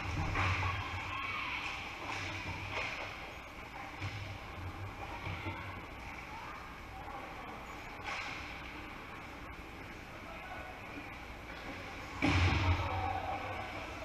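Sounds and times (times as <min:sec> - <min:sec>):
arena noise: 0:00.0 - 0:14.0
faint distant voices: 0:00.0 - 0:14.0.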